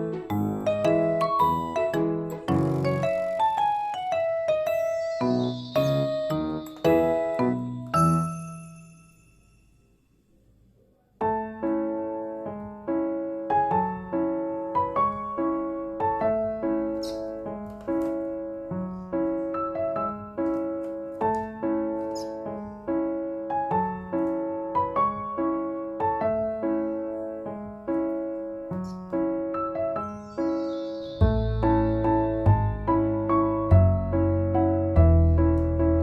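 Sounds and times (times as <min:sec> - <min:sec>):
gentle piano music: 0:00.0 - 0:09.9, 0:11.2 - 0:36.0.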